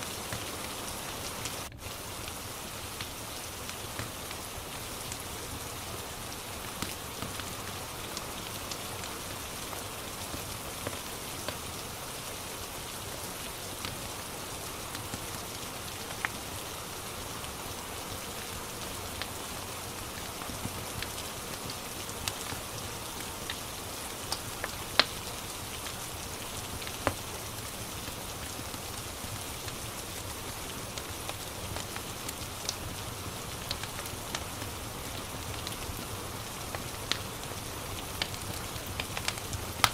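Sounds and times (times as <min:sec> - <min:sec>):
log fire crackling: 0:00.0 - 0:39.9
steady rain: 0:00.0 - 0:39.9.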